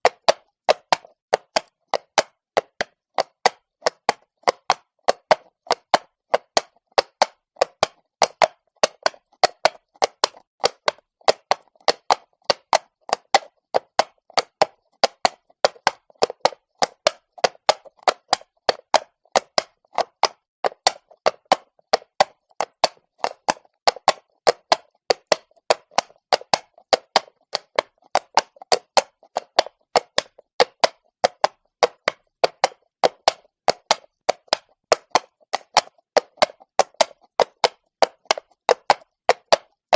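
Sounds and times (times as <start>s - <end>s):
horse hooves on cobblestone: 0.0s - 39.9s.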